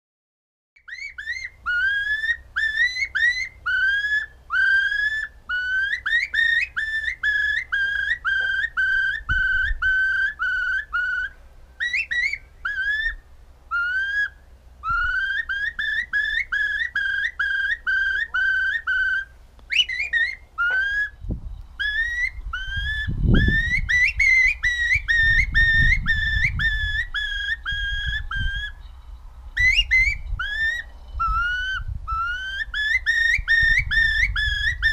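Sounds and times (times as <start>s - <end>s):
finger whistling: 0.8s - 28.9s, 29.5s - 34.9s.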